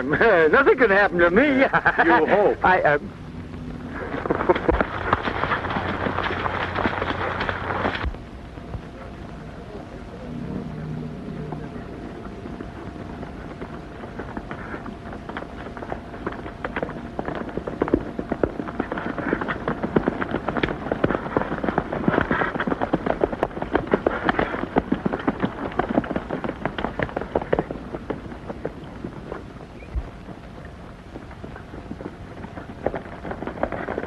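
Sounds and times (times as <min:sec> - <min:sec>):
horses galloping on hard ground: 0:00.0 - 0:34.0.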